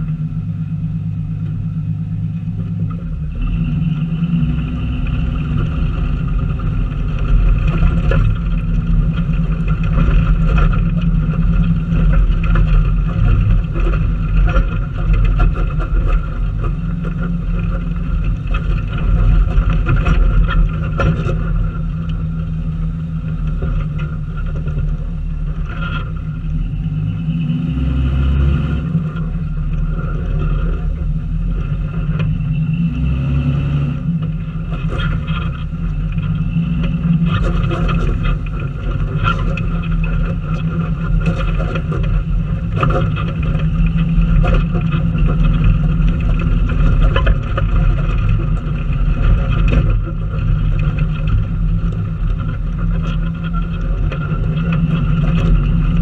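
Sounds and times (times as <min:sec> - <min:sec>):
off-road vehicle engine rumbling: 0:00.0 - 0:56.0.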